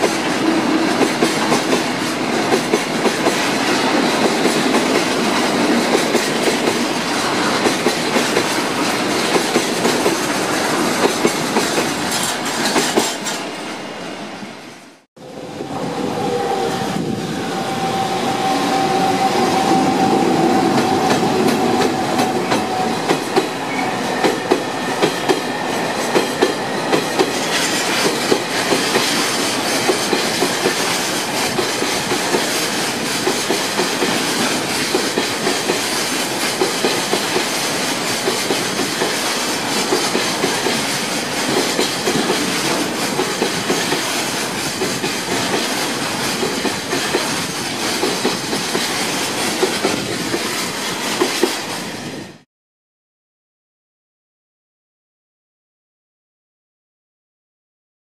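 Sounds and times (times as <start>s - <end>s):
freight train rumbling past: 0.0s - 52.4s.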